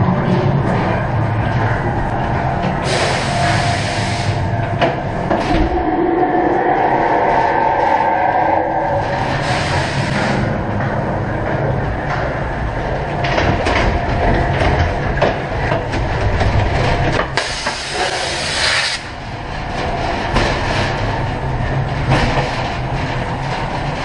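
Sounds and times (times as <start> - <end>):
ride car rumbling on track: 0.0 - 24.0.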